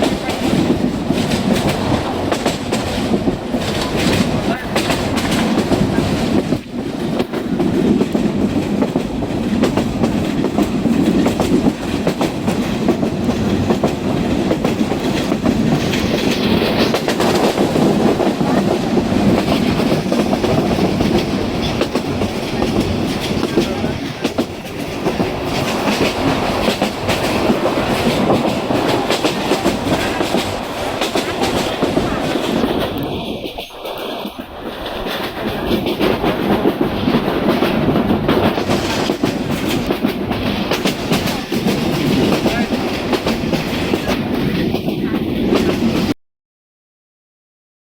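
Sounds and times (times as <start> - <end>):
wheels clicking over rail joints: 0.0 - 45.9
train rumbling on track: 0.0 - 46.2.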